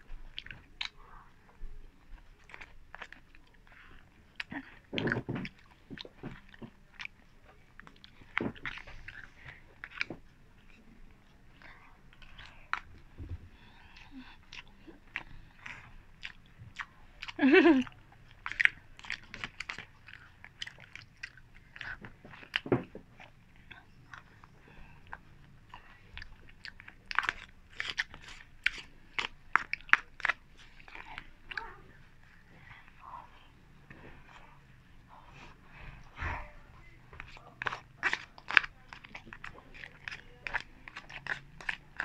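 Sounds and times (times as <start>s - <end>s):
chewing and lip-smacking: 0.0s - 42.0s.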